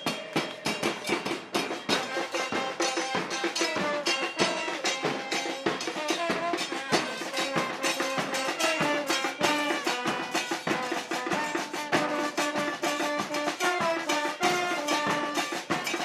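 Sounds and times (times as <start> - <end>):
brass band playing: 0.0 - 16.0
small drum beating: 0.0 - 16.0
trombone holding notes: 2.0 - 16.0.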